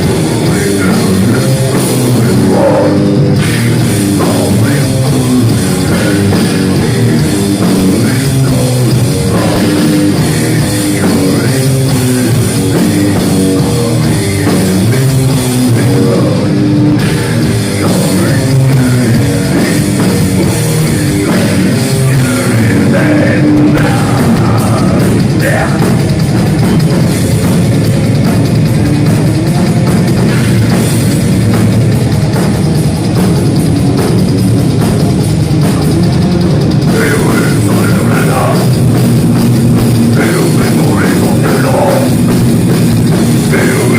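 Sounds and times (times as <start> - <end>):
drum kit: 0.0 - 43.9
guitar riffs: 0.0 - 43.9
heavy metal band playing: 0.0 - 43.9.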